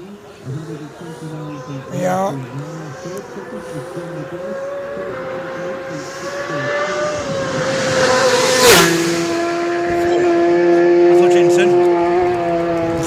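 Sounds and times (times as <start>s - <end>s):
racing motorcycle passing by: 0.4s - 13.0s.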